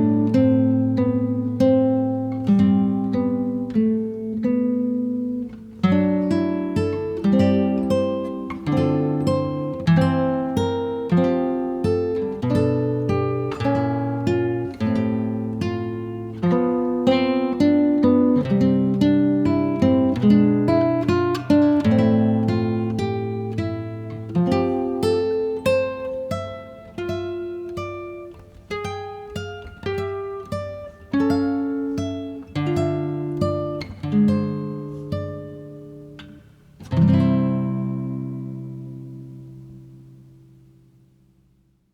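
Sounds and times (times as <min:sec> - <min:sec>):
acoustic guitar picking melody: 0:00.0 - 0:41.9.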